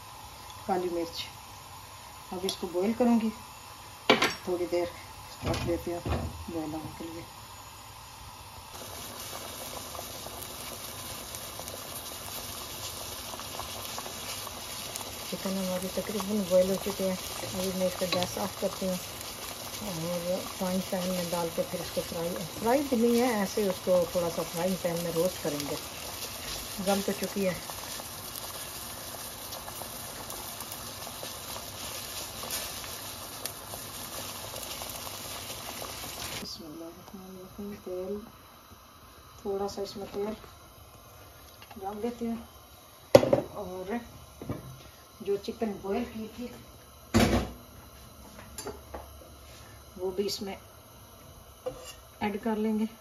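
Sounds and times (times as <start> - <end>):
pot of water boiling hard: 0.0 - 53.0.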